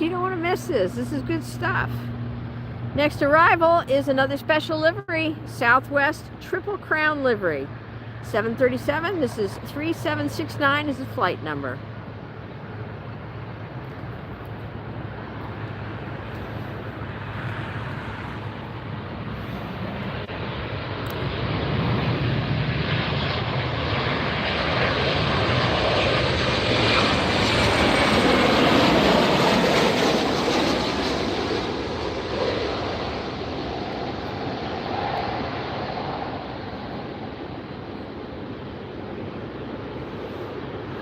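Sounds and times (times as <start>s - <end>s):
jet engines passing: 0.0s - 41.0s.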